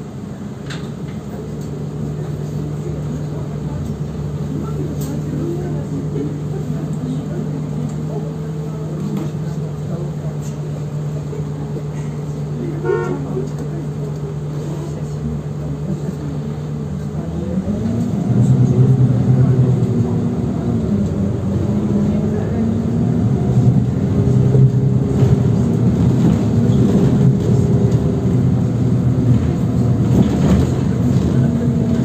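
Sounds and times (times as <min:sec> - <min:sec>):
bus driving interior hum: 0:00.0 - 0:32.0.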